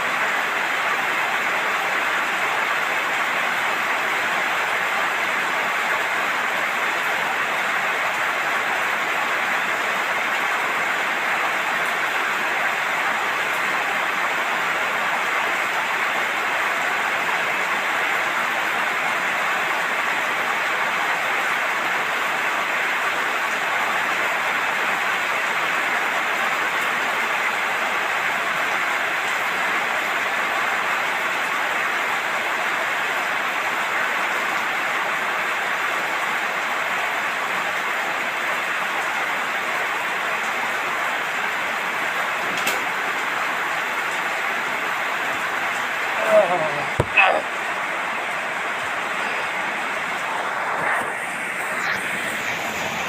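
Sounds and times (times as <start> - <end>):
heavy rainfall: 0.0 - 53.0.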